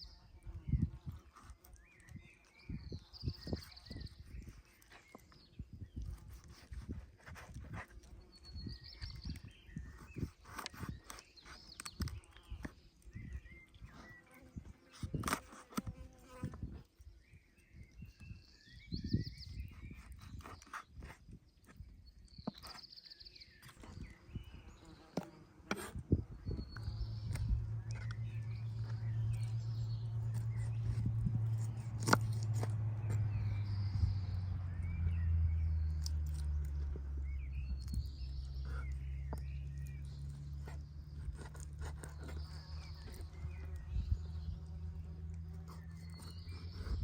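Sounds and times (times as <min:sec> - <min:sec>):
birds chirping: 0:00.0 - 0:47.0
light clicks and scrapes: 0:01.0 - 0:17.0, 0:19.0 - 0:24.2, 0:25.1 - 0:34.2, 0:35.8 - 0:47.0.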